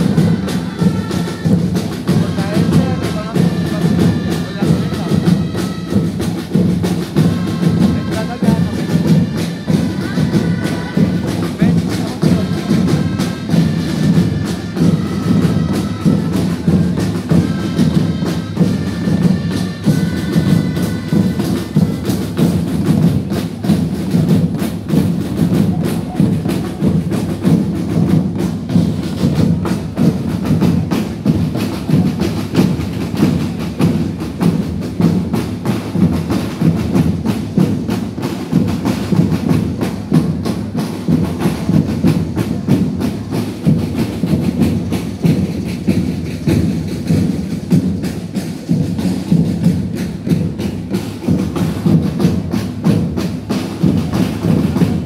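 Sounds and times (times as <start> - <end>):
drum beat: 0.0 - 55.0.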